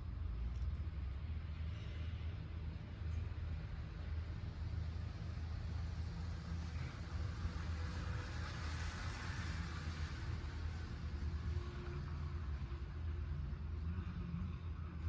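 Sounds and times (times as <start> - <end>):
insect trill: 0.4 - 15.0.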